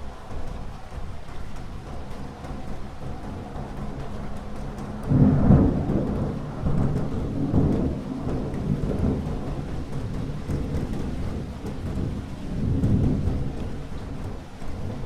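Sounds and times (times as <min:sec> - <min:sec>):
steady rain: 0:00.0 - 0:15.0
thunder clap rumbling: 0:00.0 - 0:15.0.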